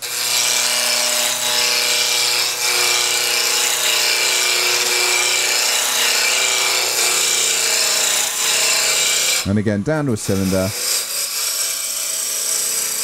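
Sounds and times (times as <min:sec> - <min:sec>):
hiss of tool cutting wood: 0:00.0 - 0:13.0
lathe humming: 0:00.0 - 0:13.0.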